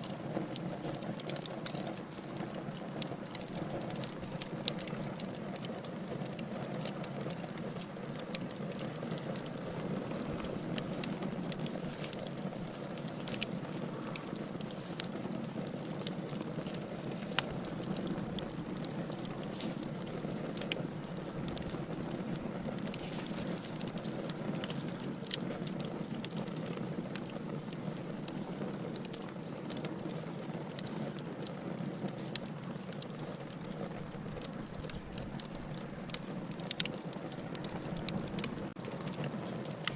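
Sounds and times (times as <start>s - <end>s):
fire crackling and popping: 0.0s - 39.9s
fire flames rushing: 0.4s - 39.9s.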